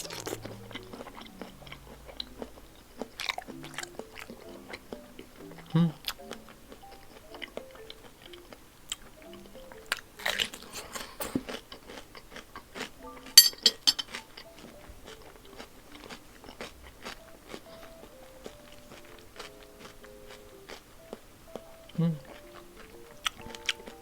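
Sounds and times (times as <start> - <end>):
person chewing and biting food: 0.0 - 24.0.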